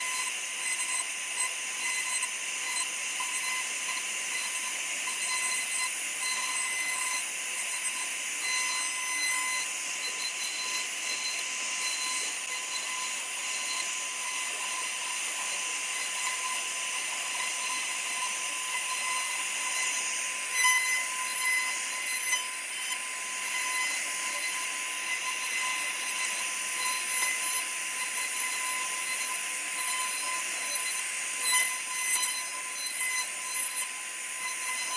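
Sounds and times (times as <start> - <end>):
router spindle cutting wood: 0.0 - 34.9.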